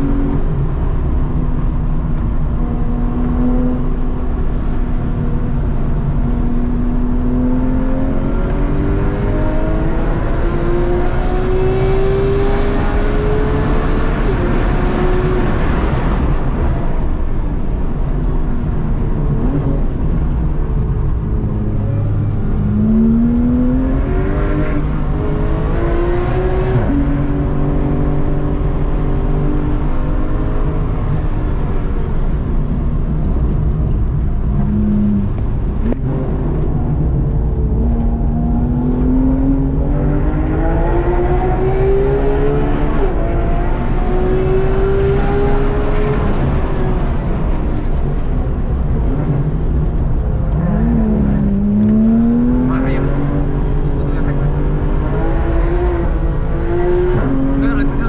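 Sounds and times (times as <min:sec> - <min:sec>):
car engine accelerating from cabin: 0:00.0 - 0:58.0.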